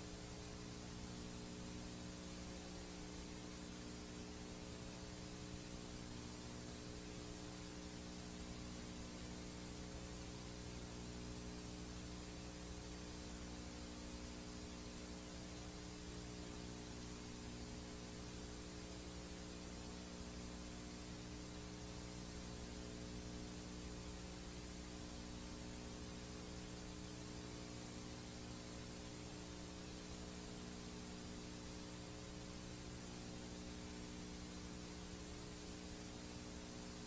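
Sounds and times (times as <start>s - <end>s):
low mains hum: 0.0s - 37.0s
tape hiss: 0.0s - 37.0s.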